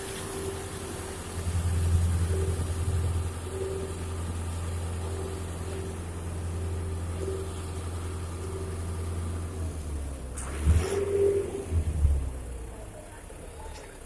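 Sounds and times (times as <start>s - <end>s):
diesel engine idling: 0.0s - 10.4s, 11.0s - 14.0s
faint whine: 0.0s - 14.0s.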